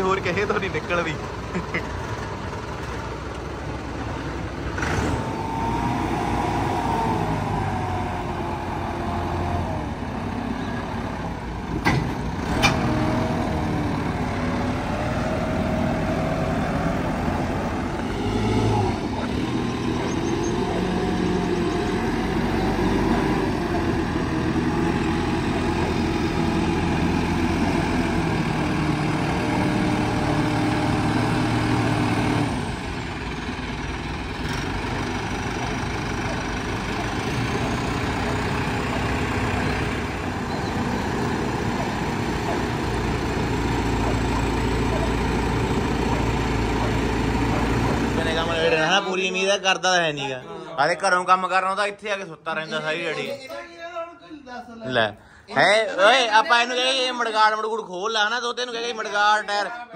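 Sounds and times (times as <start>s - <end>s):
tractor diesel engine running: 0.0s - 49.8s.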